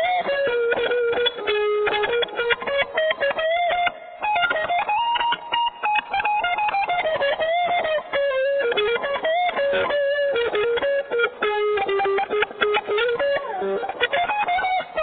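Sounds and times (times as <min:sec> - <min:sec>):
guitar plucked melody: 0:00.0 - 0:15.0.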